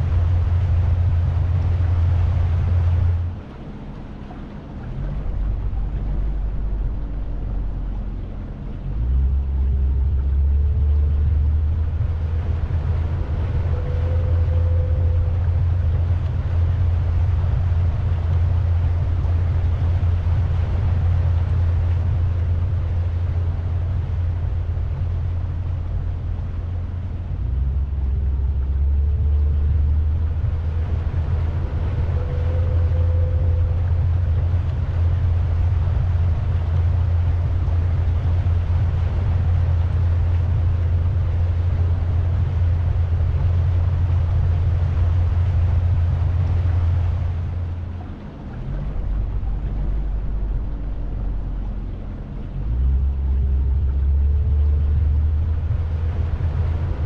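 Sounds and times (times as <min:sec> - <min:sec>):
boat motor droning: 0:00.0 - 0:57.0
wind and water noise: 0:00.0 - 0:57.0.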